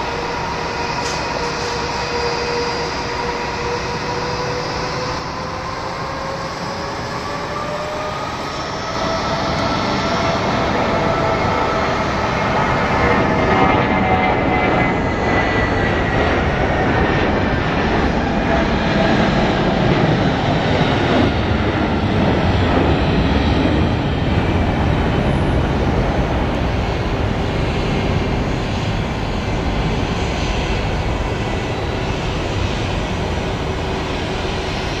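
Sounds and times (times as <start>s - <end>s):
jet engine rumble: 0.0s - 35.0s
jet engine whine: 0.0s - 35.0s.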